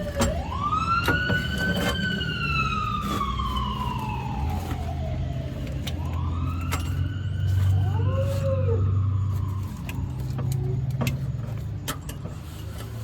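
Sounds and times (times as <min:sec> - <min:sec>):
siren wailing: 0:00.0 - 0:10.9
low rumble of traffic: 0:00.0 - 0:13.0.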